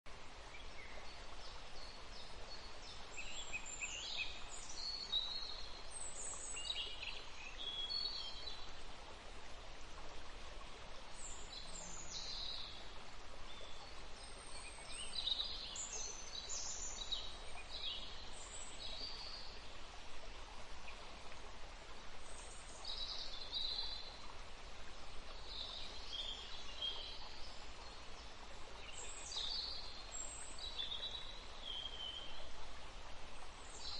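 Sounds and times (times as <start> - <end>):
faint background hiss: 0.1 - 33.9.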